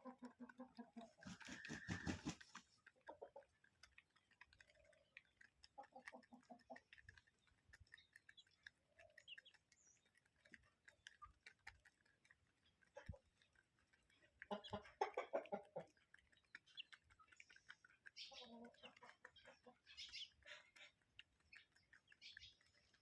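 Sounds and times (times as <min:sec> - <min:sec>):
chicken clucks: 0:00.0 - 0:09.6, 0:12.7 - 0:23.0
faint clicking and ticking: 0:00.0 - 0:23.0.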